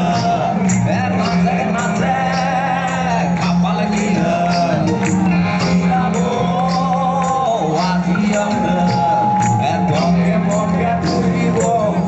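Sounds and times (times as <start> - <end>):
live rock band playing: 0.0 - 12.0
man singing lead vocals: 0.0 - 12.0.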